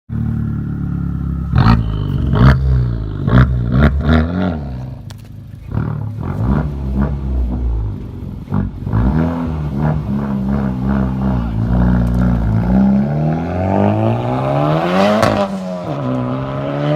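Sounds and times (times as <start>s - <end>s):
car engine revving: 0.1s - 16.9s.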